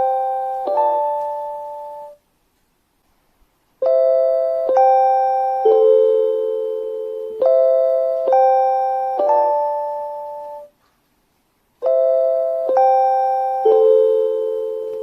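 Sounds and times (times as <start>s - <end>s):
electronic bell chime notes: 0.0s - 2.2s, 3.8s - 10.7s, 11.8s - 15.0s.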